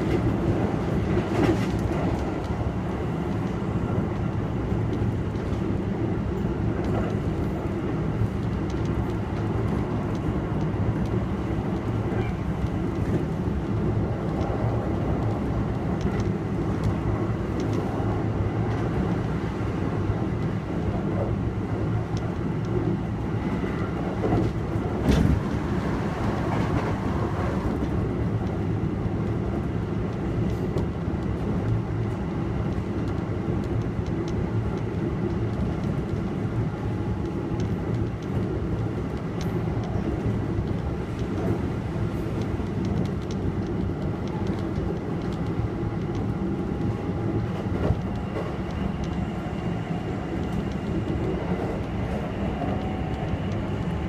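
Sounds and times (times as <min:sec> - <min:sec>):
faint rail-joint clicks: 0:00.0 - 0:02.6, 0:03.2 - 0:07.6, 0:08.2 - 0:21.4, 0:22.0 - 0:25.6, 0:26.3 - 0:54.0
train wheels rumbling on rail: 0:00.0 - 0:54.0.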